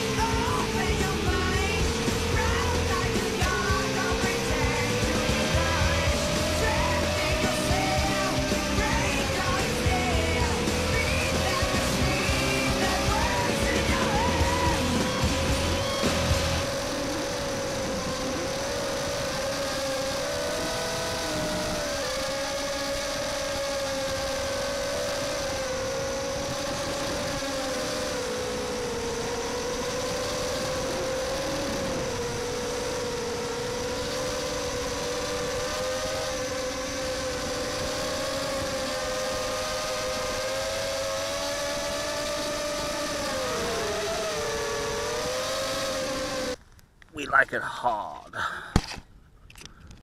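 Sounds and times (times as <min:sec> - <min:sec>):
quadcopter propellers whining: 0:00.0 - 0:50.0.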